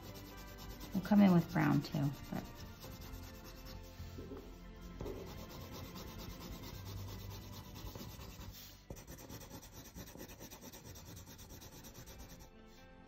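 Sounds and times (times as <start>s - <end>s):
coloured pencil shading on paper: 0.0s - 12.8s.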